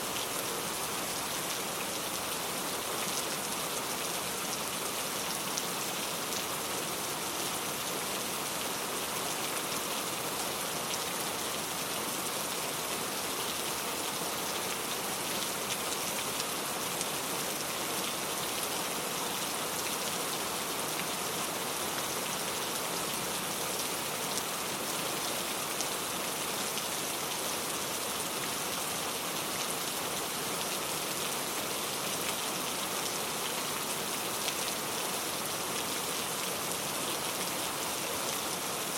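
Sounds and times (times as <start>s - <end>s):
heavy rain on a hard surface: 0.0s - 38.9s.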